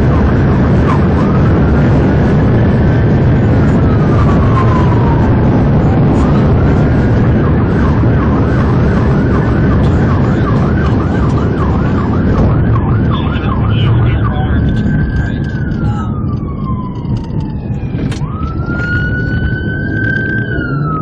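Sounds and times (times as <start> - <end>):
police siren wailing and yelping: 0.0 - 21.0
road and engine noise: 0.0 - 21.0.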